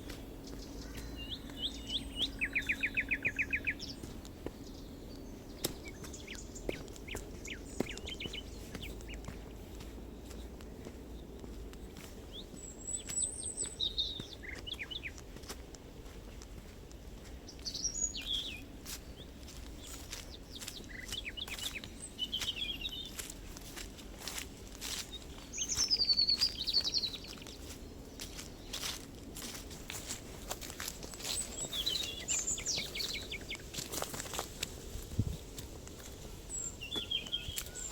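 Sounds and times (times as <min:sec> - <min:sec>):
footsteps on forest path: 0:00.0 - 0:37.9
songbirds chirping: 0:00.0 - 0:37.9.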